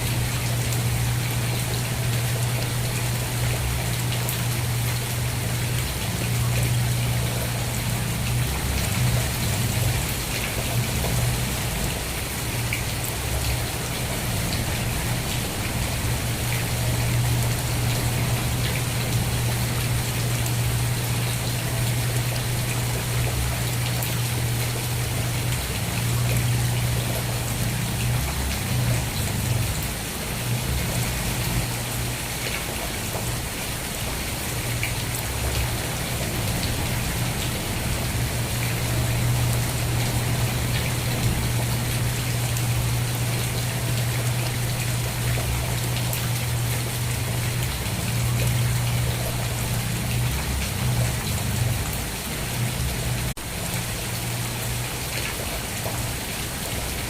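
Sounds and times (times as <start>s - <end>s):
constant low hum: 0.0s - 56.2s
heavy rain pattering: 0.0s - 57.0s.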